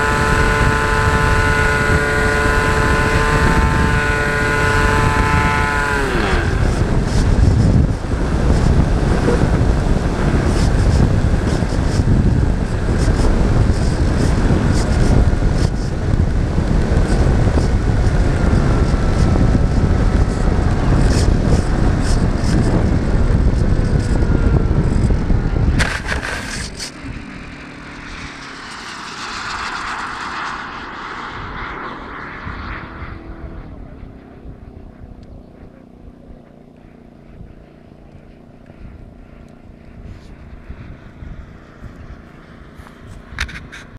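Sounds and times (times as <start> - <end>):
model aircraft propeller drone: 0.0 - 43.9
wind rushing over camera: 0.0 - 43.9.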